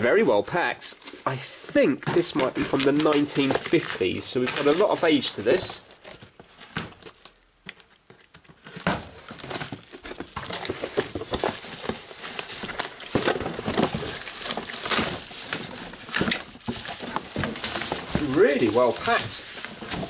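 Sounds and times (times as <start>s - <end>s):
bubble wrap and cardboard rustling: 0.0s - 20.0s.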